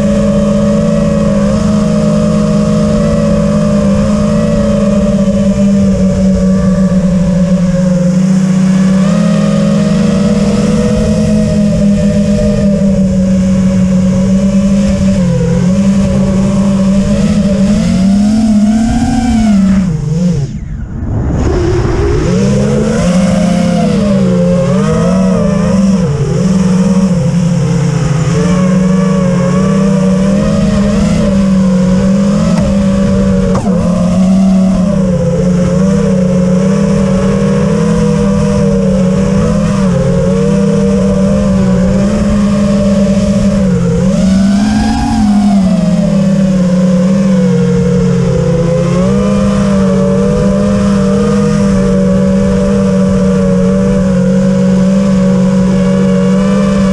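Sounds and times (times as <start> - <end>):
quadcopter motors whining: 0.0 - 56.9.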